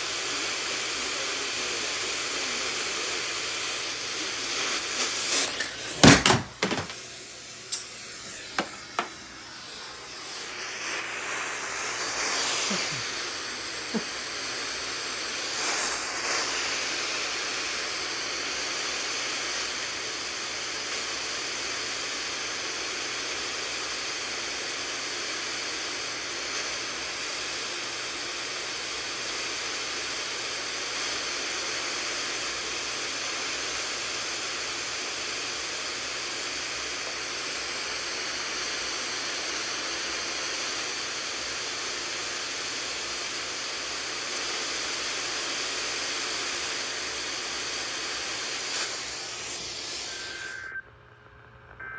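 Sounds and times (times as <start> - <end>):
radio static hiss: 0.0 - 51.9.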